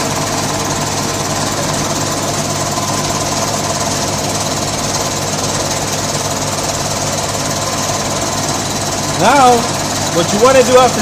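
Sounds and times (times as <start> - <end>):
compressor rattling: 0.0 - 11.0.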